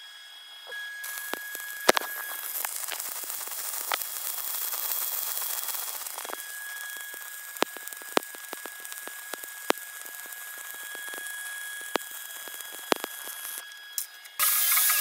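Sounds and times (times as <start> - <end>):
thin steady whine: 0.0 - 15.0
welding arc crackling: 0.6 - 15.0
sharp welding pops: 1.0 - 15.0.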